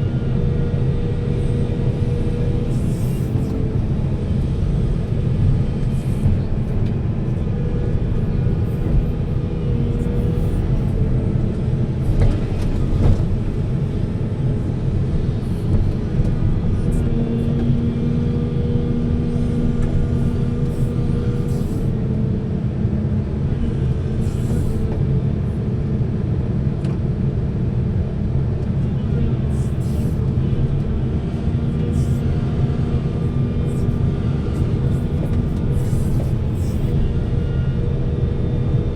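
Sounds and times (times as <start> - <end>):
heavy diesel machinery rumbling: 0.0 - 38.9.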